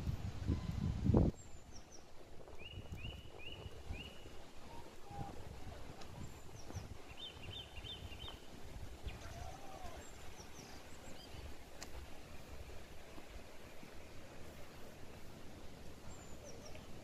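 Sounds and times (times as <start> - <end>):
forest birds calling: 1.3 - 17.0.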